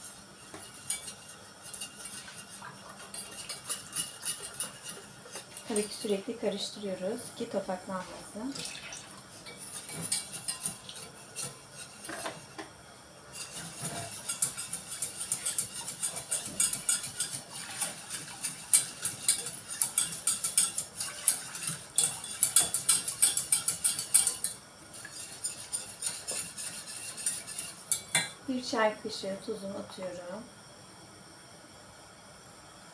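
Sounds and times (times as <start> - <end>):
whisk scraping metal pot: 0.0 - 12.7, 13.3 - 28.3.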